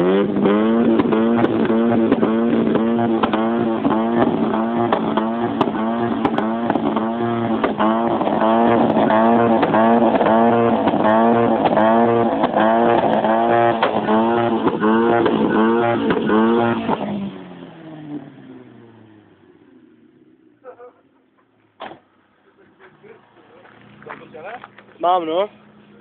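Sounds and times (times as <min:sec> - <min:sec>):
car engine revving: 0:00.0 - 0:26.0
exhaust cracks: 0:00.0 - 0:26.0.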